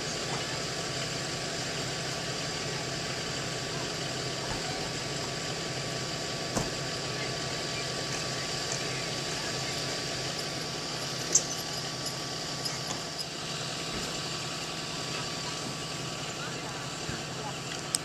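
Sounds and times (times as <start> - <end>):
diesel engines idling: 0.0 - 18.0.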